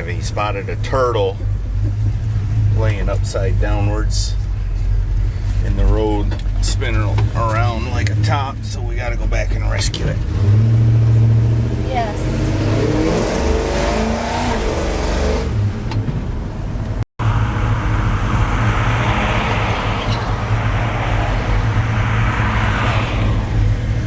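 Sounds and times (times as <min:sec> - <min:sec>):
pickup engine droning: 0:00.0 - 0:24.0
road and wind noise: 0:00.0 - 0:24.0.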